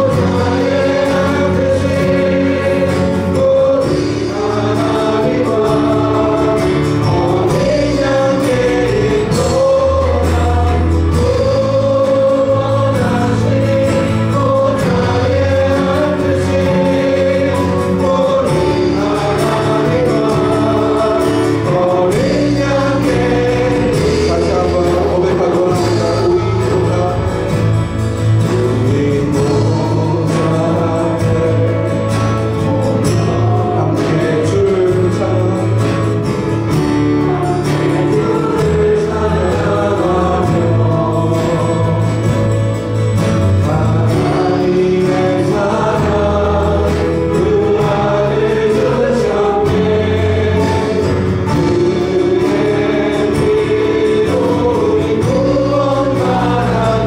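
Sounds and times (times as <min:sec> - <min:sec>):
acoustic guitar: 0:00.0 - 0:57.0
held bass notes: 0:00.0 - 0:57.0
many voices singing together: 0:00.0 - 0:57.0.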